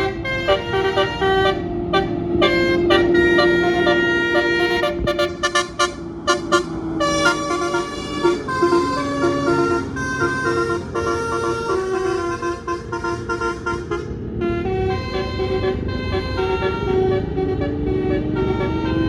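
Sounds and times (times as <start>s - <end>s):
musical bus horn playing tune: 0.0s - 19.0s.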